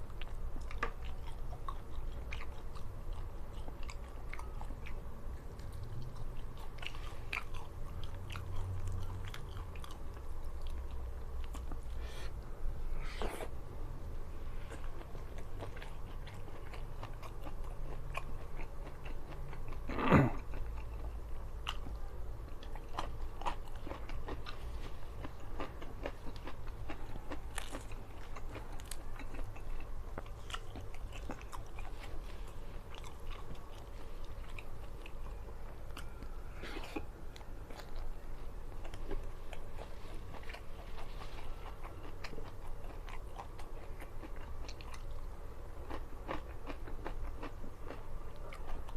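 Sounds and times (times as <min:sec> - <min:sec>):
person chewing crunchy food: 0:00.0 - 0:12.4, 0:14.5 - 0:48.9.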